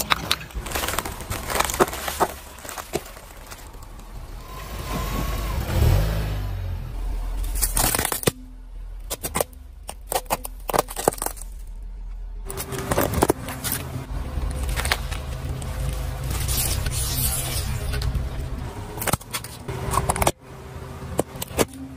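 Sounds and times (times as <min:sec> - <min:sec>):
objects cracking under tyres: 0:00.0 - 0:05.3, 0:07.4 - 0:20.4, 0:21.1 - 0:21.9.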